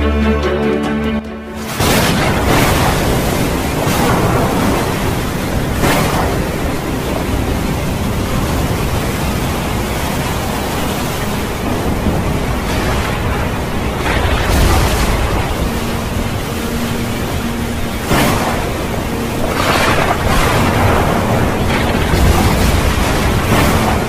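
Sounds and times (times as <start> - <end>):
heavy rain on flooded road: 1.6 - 24.0.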